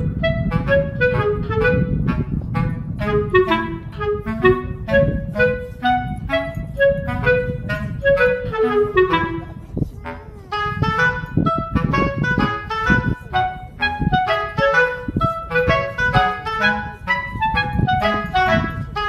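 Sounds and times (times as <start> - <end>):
quick melody of separate notes: 0.0 - 19.0
steady low accompaniment: 0.0 - 19.0.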